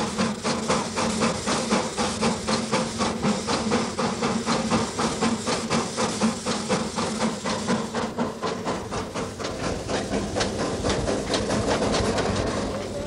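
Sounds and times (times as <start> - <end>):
hiss of steam: 0.0 - 13.0
steam locomotive exhaust beats: 0.0 - 13.0.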